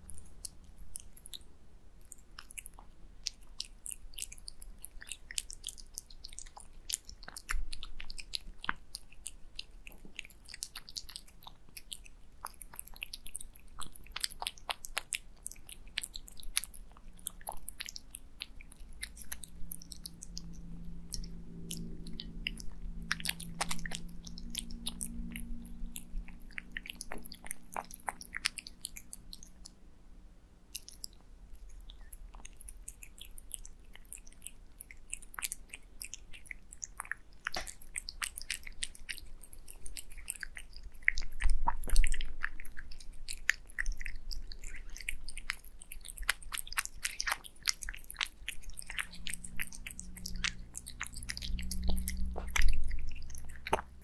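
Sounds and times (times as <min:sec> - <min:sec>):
cats chewing and licking: 0:00.0 - 0:29.9, 0:30.6 - 0:54.0.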